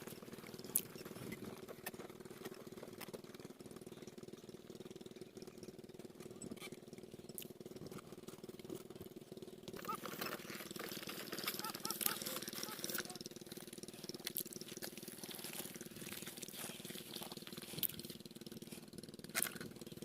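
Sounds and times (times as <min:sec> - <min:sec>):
diesel water pump chugging: 0:00.0 - 0:20.0.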